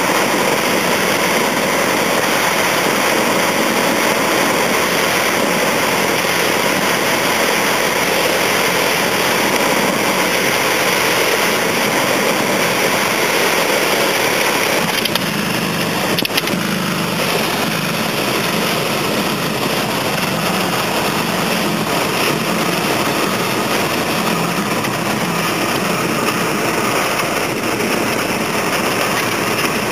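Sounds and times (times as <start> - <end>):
light plane engine and airflow: 0.0 - 29.9.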